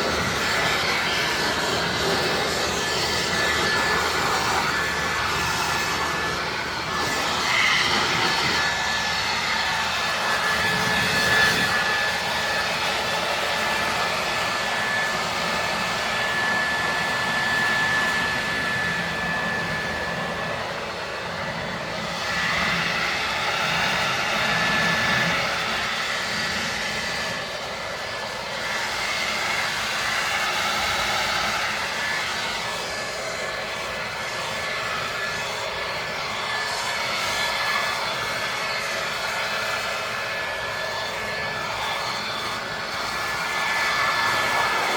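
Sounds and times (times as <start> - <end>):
power washer whine: 0.0 - 44.9.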